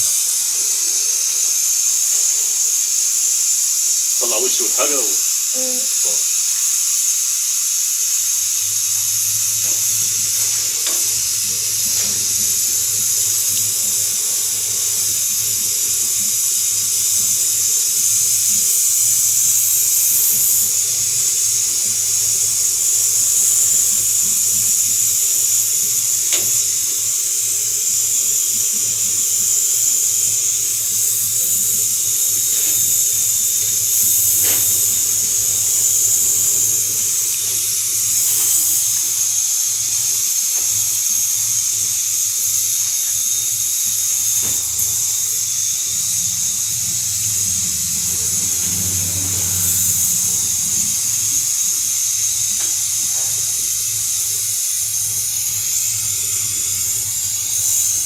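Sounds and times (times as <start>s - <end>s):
loud steady gas hiss: 0.0s - 58.0s.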